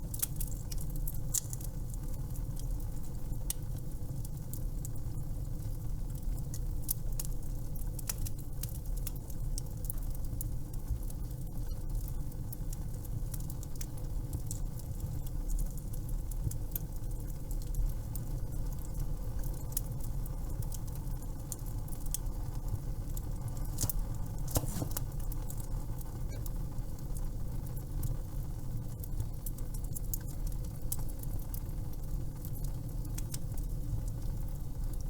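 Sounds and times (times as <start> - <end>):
fire crackling and popping: 0.0 - 35.0
low fire rumble: 0.0 - 35.0.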